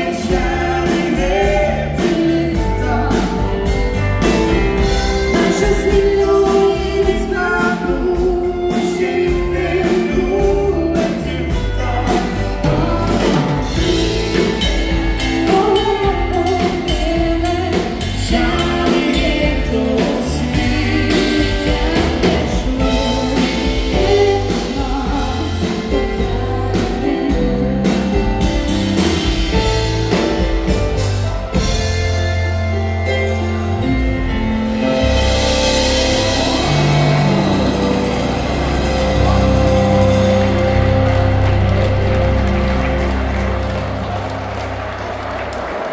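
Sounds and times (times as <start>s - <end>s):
person singing: 0.0s - 30.4s, 34.7s - 43.0s
live dance band music: 0.0s - 45.9s.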